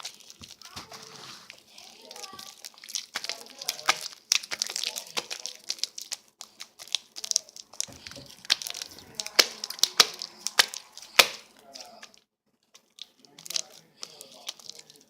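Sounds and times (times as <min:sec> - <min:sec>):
slime squished by hand: 0:00.0 - 0:15.0.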